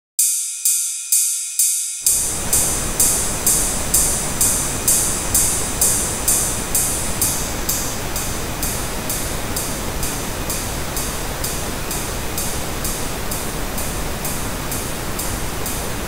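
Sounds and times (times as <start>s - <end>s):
ride cymbal strikes: 0.2s - 16.0s
pink noise: 2.1s - 16.0s.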